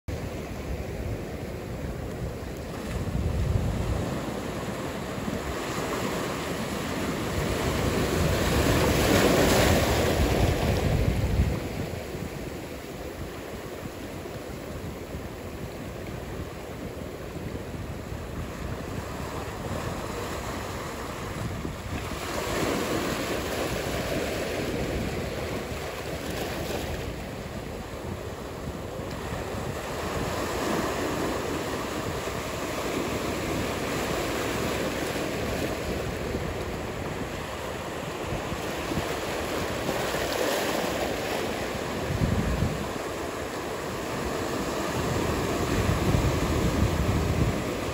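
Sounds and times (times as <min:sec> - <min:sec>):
ocean waves breaking: 0:00.1 - 0:47.9.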